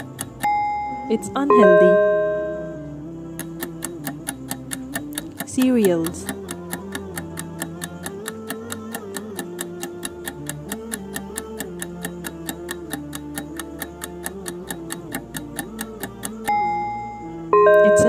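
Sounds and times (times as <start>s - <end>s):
timer ticking fast: 0.0s - 2.8s, 3.4s - 18.0s
soft background tune: 0.0s - 18.0s.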